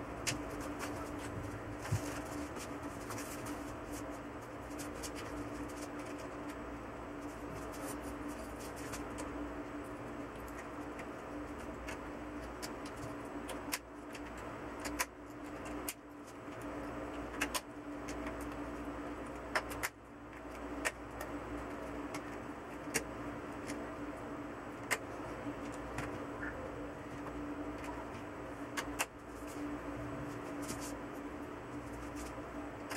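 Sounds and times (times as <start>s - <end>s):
steady background hum: 0.0s - 32.9s.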